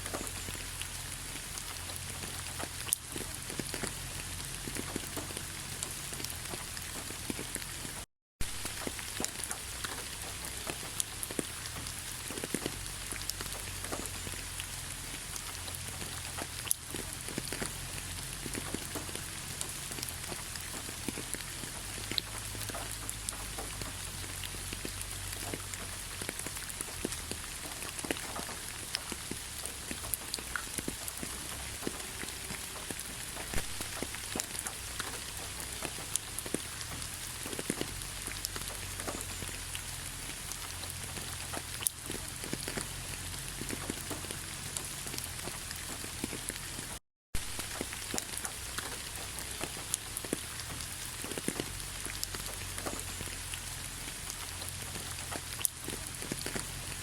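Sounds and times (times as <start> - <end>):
rain drops ticking on surface: 0.0 - 57.0.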